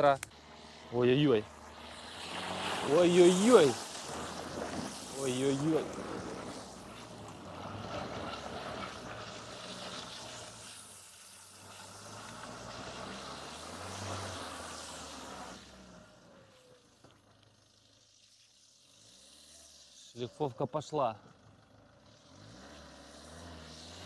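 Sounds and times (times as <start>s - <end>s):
car engine under load: 0.0s - 24.0s
tyres hissing through mud: 0.0s - 24.0s.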